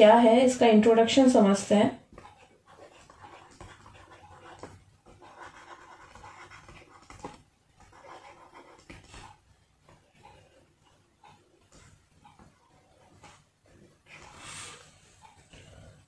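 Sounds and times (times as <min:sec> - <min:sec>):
stylus scratching on screen: 0:02.0 - 0:16.0.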